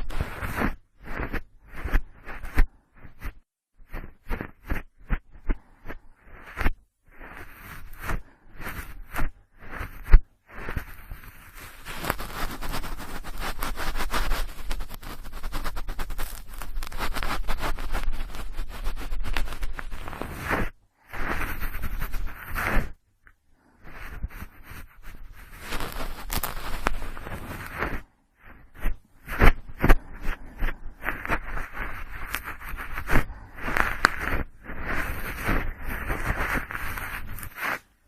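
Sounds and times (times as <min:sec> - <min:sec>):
cotton swab rubbing microphone: 0:00.0 - 0:38.0.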